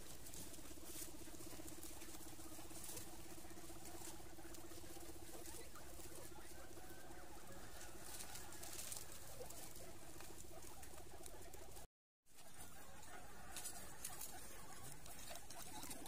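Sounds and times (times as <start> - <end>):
guinea pigs squeaking: 0.0 - 16.0
rustling in pen: 0.0 - 16.0.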